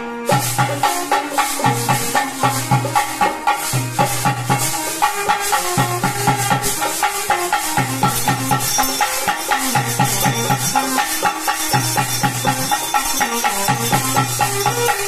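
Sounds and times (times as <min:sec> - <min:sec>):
wind instrument melody: 0:00.0 - 0:15.0
fast drum beat: 0:00.3 - 0:15.0
jangling metal percussion: 0:00.3 - 0:15.0.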